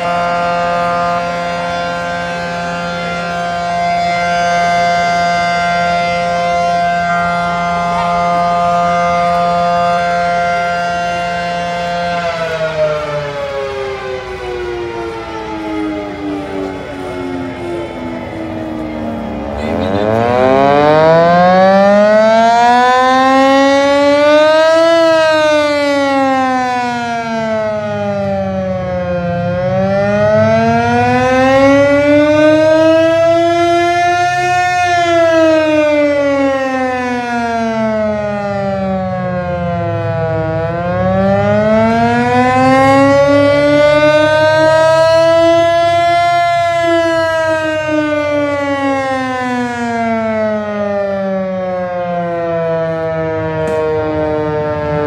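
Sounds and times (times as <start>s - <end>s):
air raid siren wailing: 0.0s - 55.0s.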